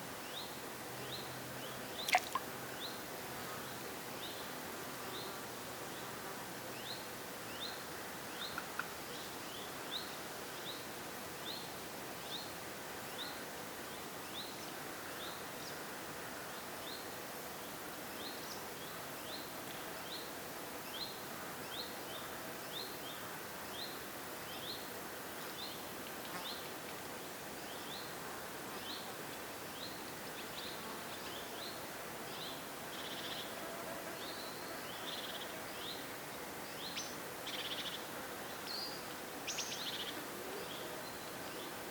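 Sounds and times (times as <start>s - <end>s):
background hiss: 0.0s - 41.9s.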